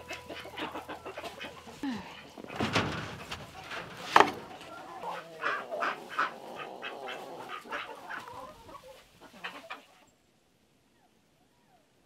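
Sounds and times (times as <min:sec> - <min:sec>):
chickens clucking: 0:00.0 - 0:10.1.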